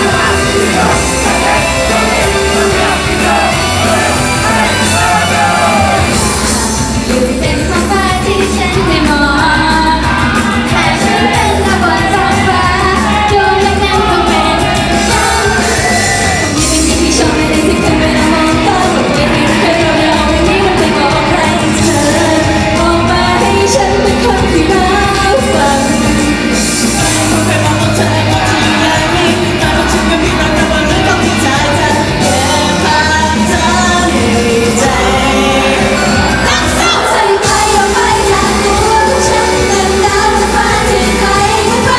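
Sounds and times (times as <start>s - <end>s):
pop backing track: 0.0s - 41.9s
women singing: 0.0s - 41.9s.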